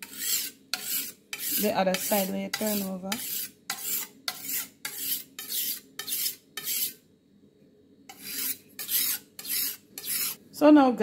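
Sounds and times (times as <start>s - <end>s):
knife scraping on whetstone: 0.0s - 7.0s, 8.1s - 10.4s.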